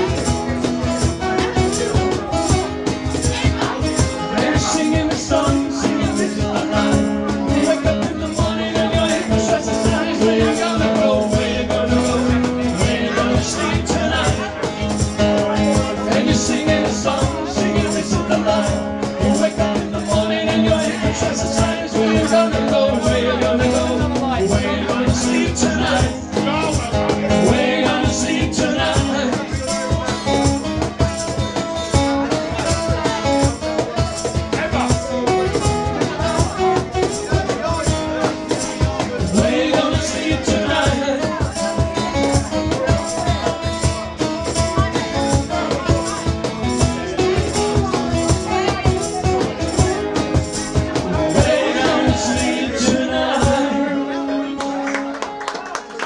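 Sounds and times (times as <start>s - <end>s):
men singing: 0.0s - 30.3s, 34.3s - 43.1s, 48.5s - 54.8s
hand drum beat: 0.0s - 53.8s
acoustic guitars strumming: 0.0s - 56.0s.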